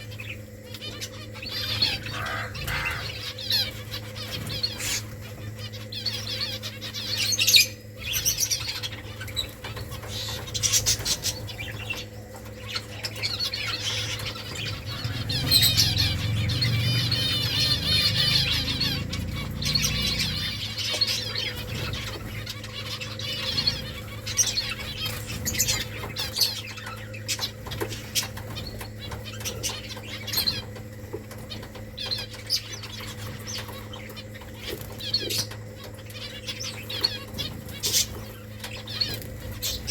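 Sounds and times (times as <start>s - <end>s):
wings fluttering: 0.0s - 7.0s, 8.0s - 39.9s
finches chirping and twittering: 0.0s - 39.9s
steady low hum: 0.0s - 39.9s.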